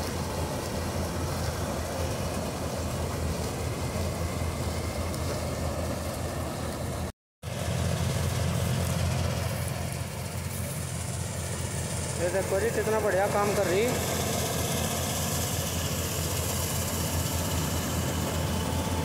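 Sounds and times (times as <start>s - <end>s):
diesel engine drone: 0.0s - 19.0s
harvesting machinery noise: 0.0s - 19.0s.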